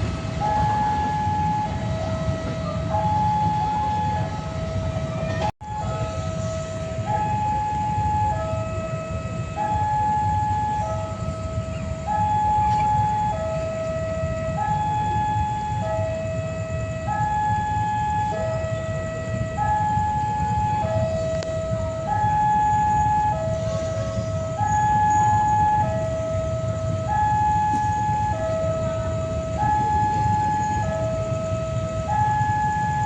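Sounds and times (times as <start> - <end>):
low steady rumble: 0.0 - 33.0
two-tone electronic alarm: 0.0 - 33.0.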